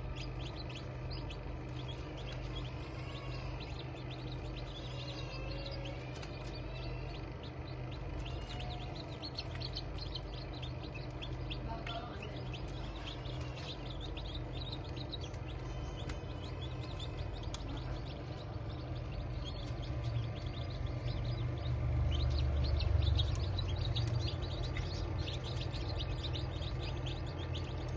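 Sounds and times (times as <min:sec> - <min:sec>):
chicks peeping: 0:00.0 - 0:27.9
steady low hum: 0:00.0 - 0:27.9.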